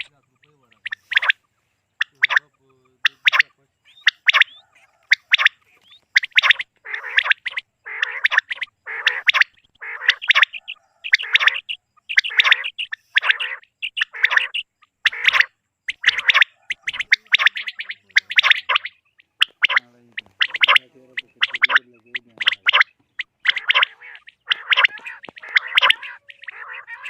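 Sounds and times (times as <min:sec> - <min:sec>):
quail calling: 0:00.0 - 0:27.0.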